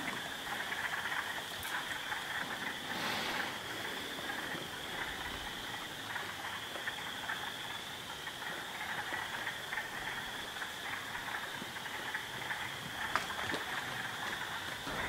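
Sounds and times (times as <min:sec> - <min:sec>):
high-pitched chorus of calling animals: 0:00.0 - 0:15.0.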